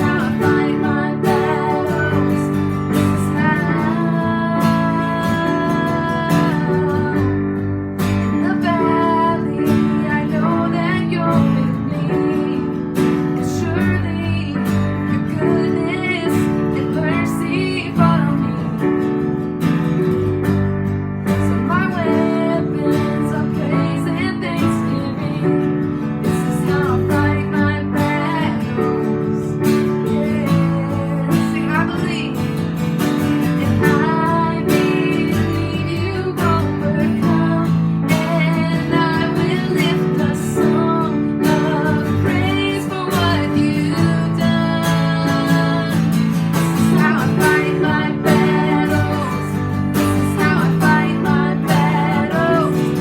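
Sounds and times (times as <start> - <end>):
strummed acoustic guitar music: 0.0 - 53.0.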